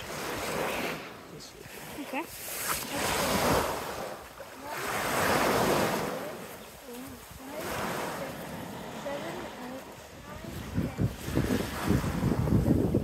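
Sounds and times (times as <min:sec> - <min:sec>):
small waves washing onto sand: 0:00.0 - 0:13.0.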